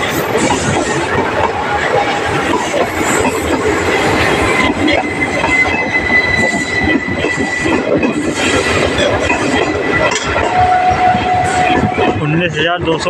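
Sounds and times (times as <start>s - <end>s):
high wheel squeal: 0.0s - 12.4s
train wheels rumbling on rails: 0.0s - 13.0s.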